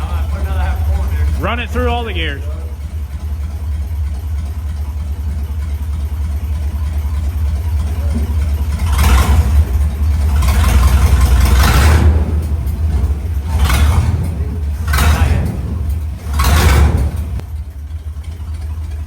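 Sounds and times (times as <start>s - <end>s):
pickup engine rumbling and revving: 0.0s - 19.0s.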